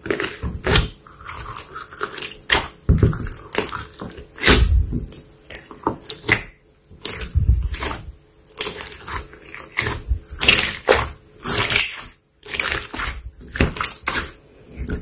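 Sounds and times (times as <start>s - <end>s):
slime clicking and crackling: 0.0s - 15.0s.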